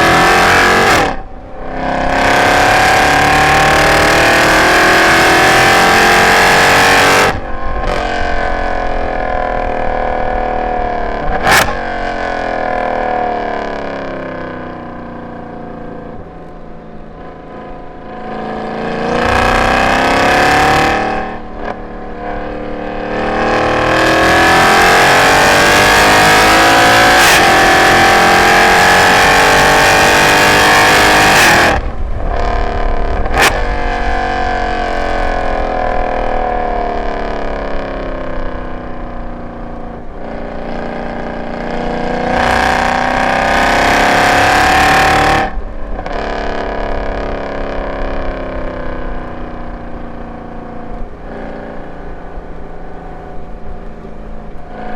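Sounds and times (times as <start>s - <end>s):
car engine accelerating hard: 0.0s - 54.9s.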